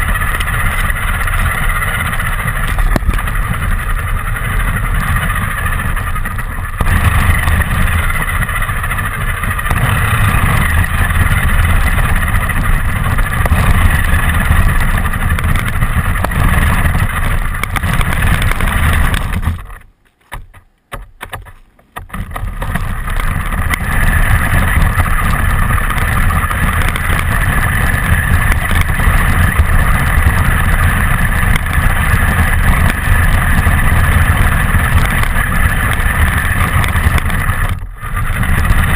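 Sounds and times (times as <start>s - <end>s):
toy car motor and tyres: 0.0s - 38.9s.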